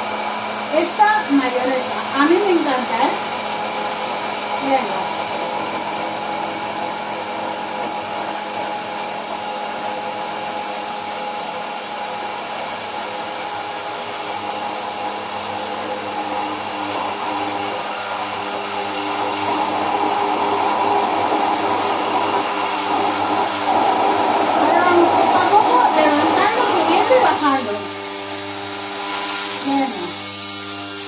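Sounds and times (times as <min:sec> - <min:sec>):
immersion blender motor whine: 0:00.0 - 0:31.0.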